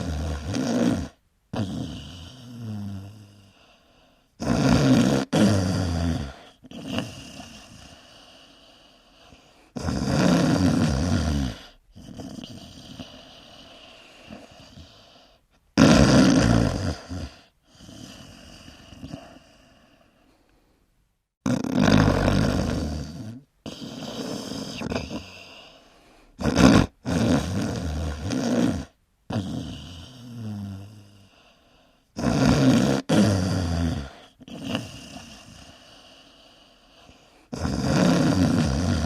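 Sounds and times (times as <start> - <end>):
dogs snoring loudly: 0.0 - 20.1, 21.4 - 39.0.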